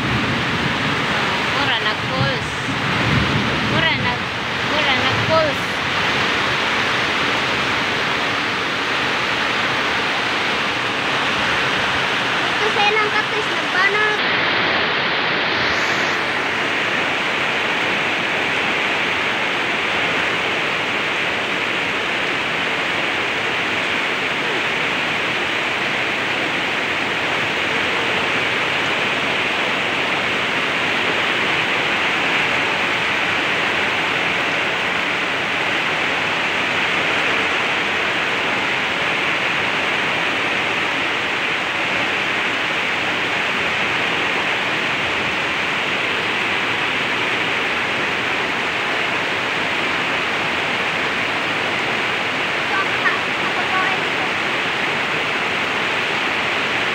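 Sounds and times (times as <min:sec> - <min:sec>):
flood water rushing: 0:00.0 - 0:56.9
heavy rain: 0:00.0 - 0:56.9.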